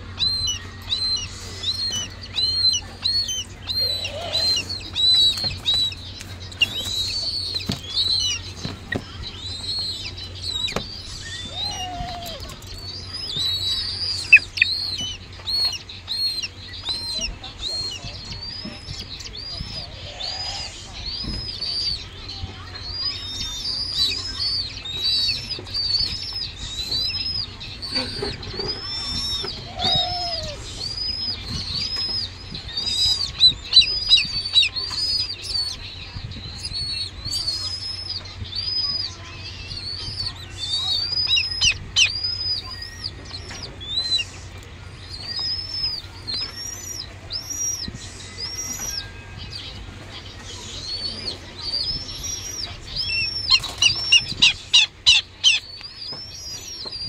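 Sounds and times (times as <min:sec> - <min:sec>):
bird chick squealing: 0:00.1 - 0:57.0.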